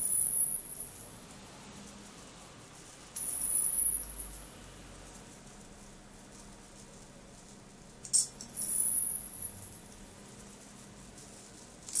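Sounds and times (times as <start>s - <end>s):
high-pitched electrical whine: 0.0s - 12.0s.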